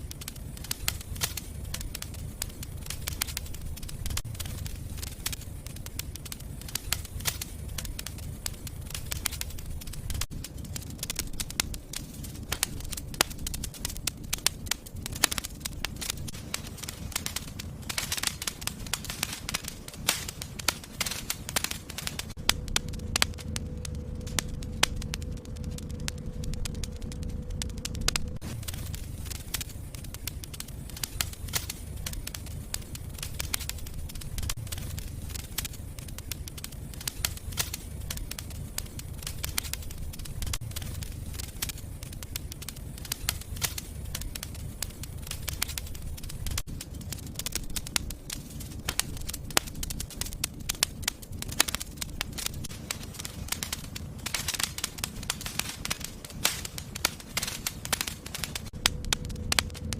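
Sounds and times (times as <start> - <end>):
fire crackling and popping: 0.0 - 59.9
low rumble of flame: 0.0 - 59.9.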